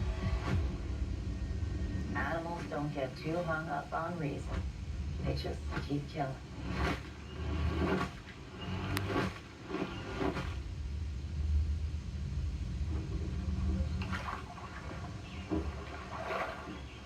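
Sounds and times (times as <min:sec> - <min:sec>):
low rumble: 0:00.0 - 0:17.0
rushing water-like noise: 0:00.0 - 0:17.0.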